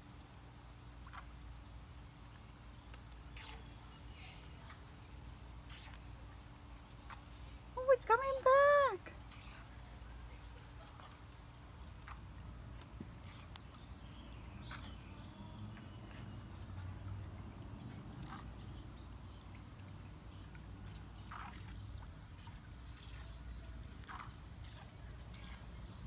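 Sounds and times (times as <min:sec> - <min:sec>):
low steady rumble: 0:00.0 - 0:26.0
water lapping and trickling: 0:00.0 - 0:26.0.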